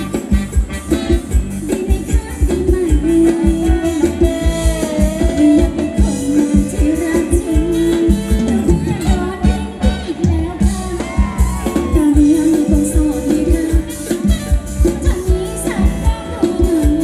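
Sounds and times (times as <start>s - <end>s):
live band playing dance music: 0.0s - 17.0s
steady drum beat: 0.0s - 17.0s
person singing: 1.5s - 17.0s.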